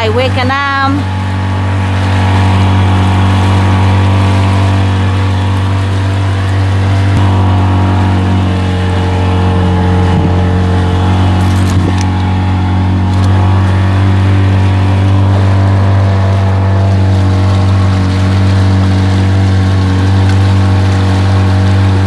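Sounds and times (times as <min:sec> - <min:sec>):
motorboat engine running: 0:00.0 - 0:22.0
water rushing along hull: 0:00.0 - 0:22.0.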